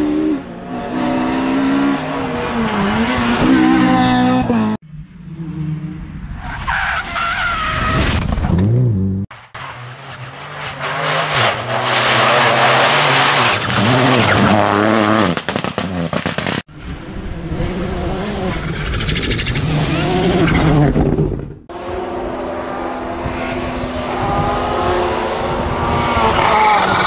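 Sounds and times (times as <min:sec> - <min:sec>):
rally car engine revving: 0:00.0 - 0:06.7, 0:08.2 - 0:27.0.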